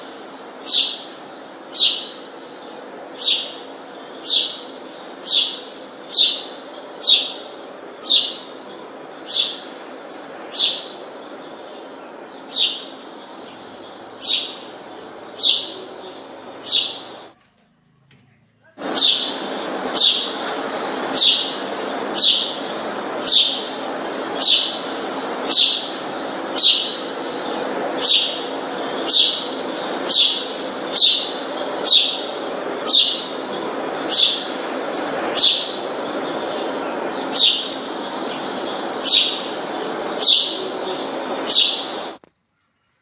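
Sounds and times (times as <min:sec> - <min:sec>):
bird chirping: 0:00.0 - 0:17.3, 0:18.8 - 0:42.9
background hum: 0:00.0 - 0:43.0.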